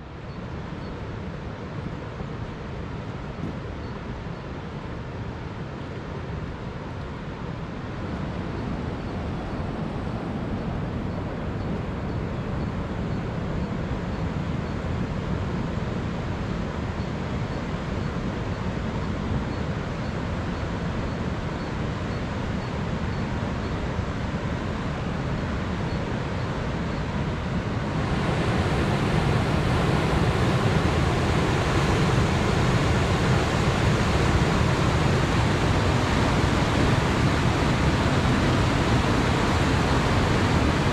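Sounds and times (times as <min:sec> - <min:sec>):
river rushing over a weir: 0:00.4 - 0:40.9.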